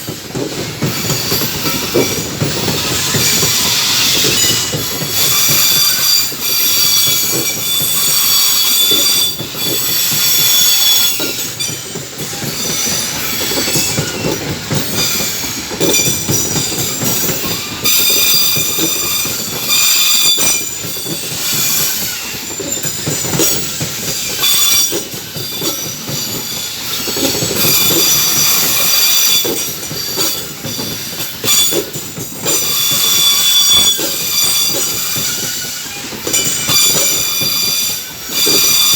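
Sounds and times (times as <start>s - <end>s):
freight train wheels clattering: 0.0s - 38.9s
train wheels squealing: 0.0s - 38.9s.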